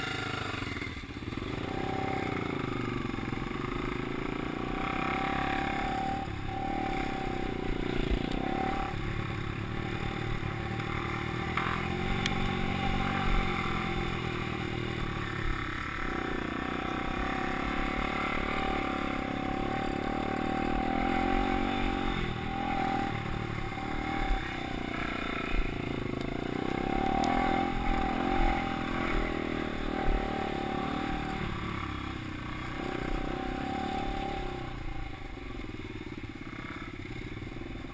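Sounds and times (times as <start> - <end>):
motocross bike engine revving: 0.0 - 35.6.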